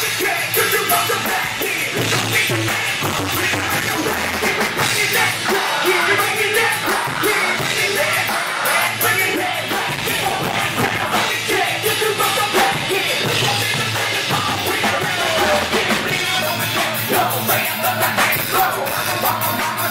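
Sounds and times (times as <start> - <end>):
drum kit: 0.0 - 19.9
live band playing loud music: 0.0 - 19.9
person singing into a microphone: 0.0 - 19.9.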